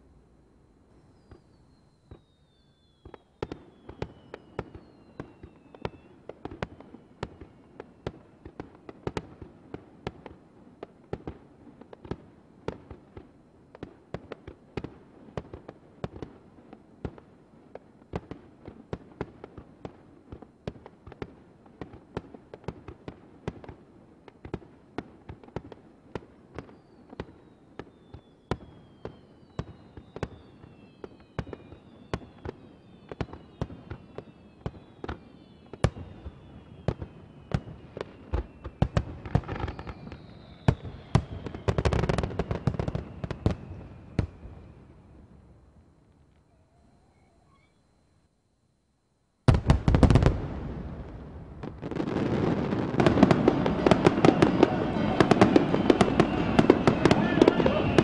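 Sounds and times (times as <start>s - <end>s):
falling firework whistles: 0.8s - 45.6s, 46.5s - 48.2s, 49.5s - 58.0s
fireworks bursting: 0.9s - 46.4s, 49.4s - 58.0s.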